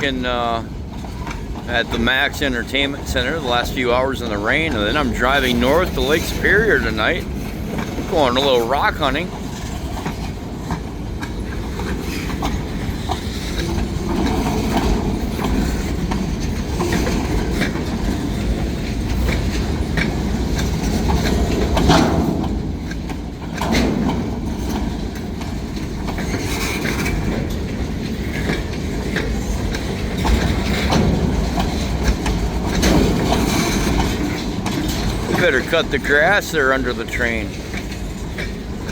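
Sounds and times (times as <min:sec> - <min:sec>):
low train rumble: 0:00.0 - 0:38.9
train wheels clicking over rail joints: 0:00.0 - 0:38.9.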